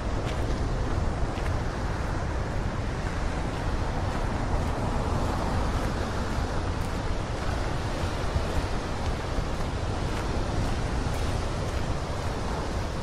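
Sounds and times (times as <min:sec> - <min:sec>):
ocean surf on rocky shore: 0:00.0 - 0:13.0
wind blowing on microphone: 0:00.0 - 0:13.0.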